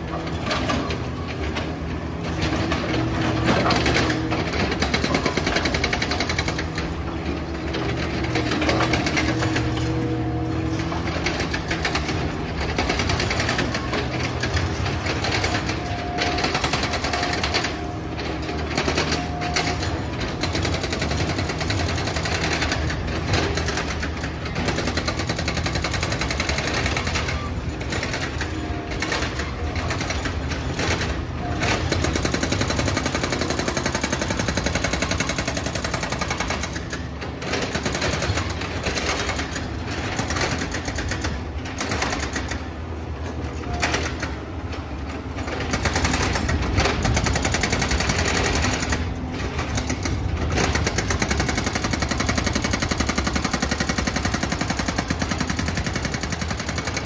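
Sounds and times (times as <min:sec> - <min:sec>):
demolition rattling clatter: 0:00.0 - 0:57.0
excavator diesel engine: 0:00.0 - 0:57.0.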